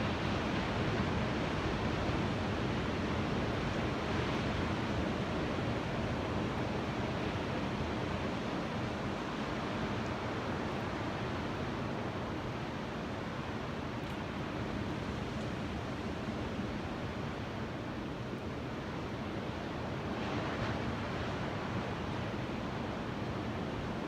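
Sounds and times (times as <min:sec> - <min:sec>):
ocean surf washing: 0:00.0 - 0:24.0.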